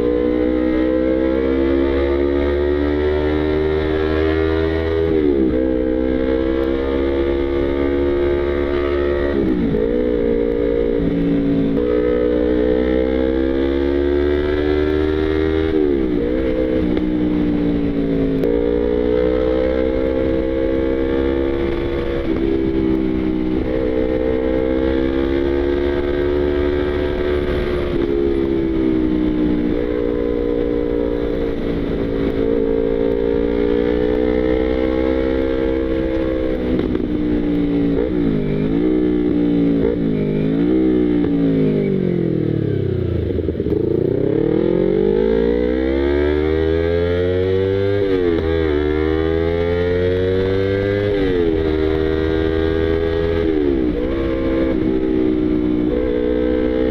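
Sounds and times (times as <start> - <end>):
motorcycle engine revving: 0.0 - 56.9
low wind rumble: 4.2 - 56.9.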